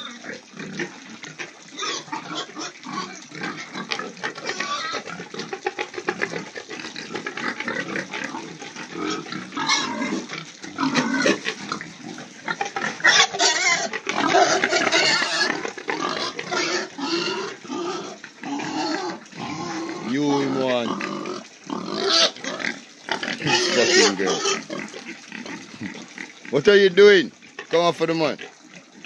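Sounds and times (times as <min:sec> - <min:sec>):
pigs grunting and squealing: 0:00.0 - 0:29.0.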